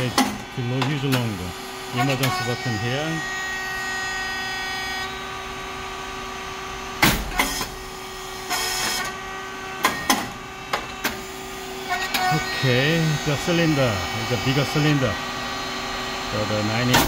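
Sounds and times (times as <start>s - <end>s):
machine motor humming: 0.0s - 17.0s.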